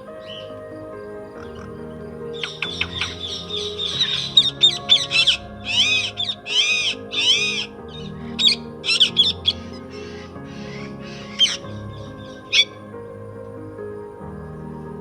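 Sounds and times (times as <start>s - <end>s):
soft background music: 0.0s - 15.0s
songbird chirping: 0.0s - 15.0s.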